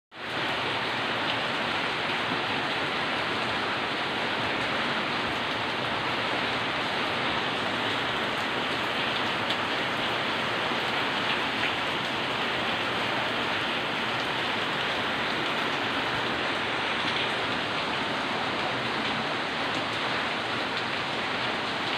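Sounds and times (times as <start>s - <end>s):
rain hissing steadily: 0.2s - 21.9s.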